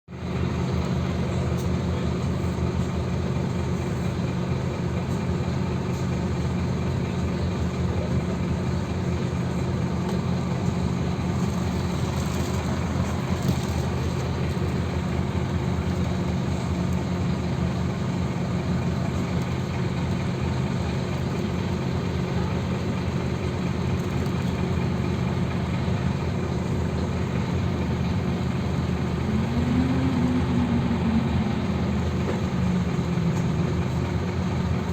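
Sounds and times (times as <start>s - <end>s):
bus engine humming: 0.1s - 34.9s.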